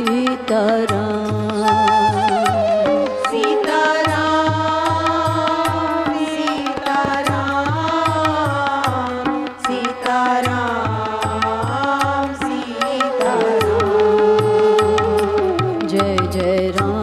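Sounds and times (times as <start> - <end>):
harmonium: 0.0 - 17.0
tabla strokes: 0.0 - 17.0
women singing together: 0.0 - 17.0.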